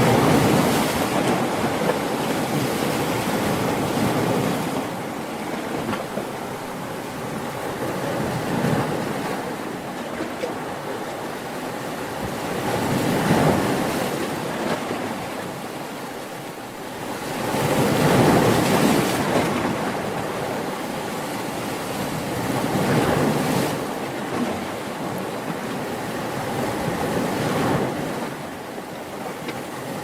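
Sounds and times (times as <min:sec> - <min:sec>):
ocean waves breaking on shore: 0:00.0 - 0:30.0.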